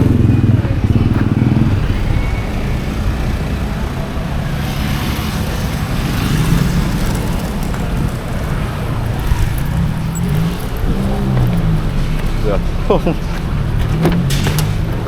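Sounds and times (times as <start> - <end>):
vehicle engines running: 0.0 - 15.0
tyres hissing: 1.3 - 15.0.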